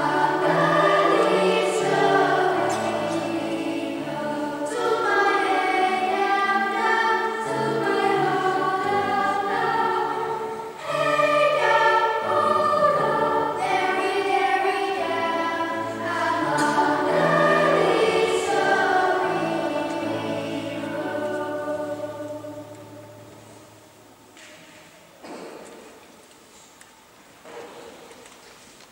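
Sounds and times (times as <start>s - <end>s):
children's choir singing: 0.0s - 28.1s.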